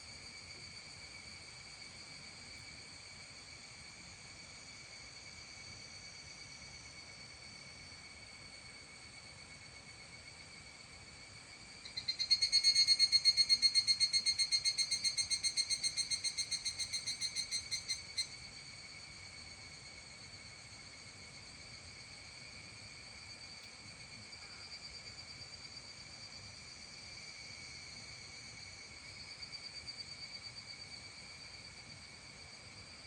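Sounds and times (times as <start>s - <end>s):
cicada ringing pulse call: 0.0s - 33.0s
high insect drone: 0.0s - 33.0s.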